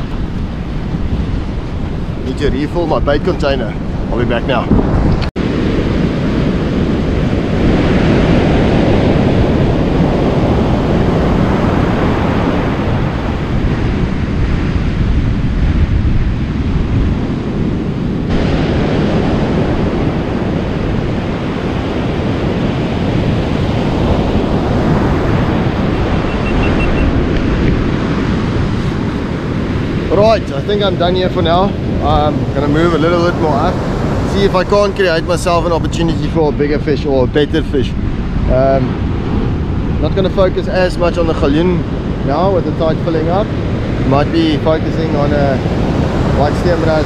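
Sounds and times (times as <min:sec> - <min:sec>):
surf breaking on beach: 0:00.0 - 0:47.0
wind buffeting microphone: 0:00.0 - 0:47.0.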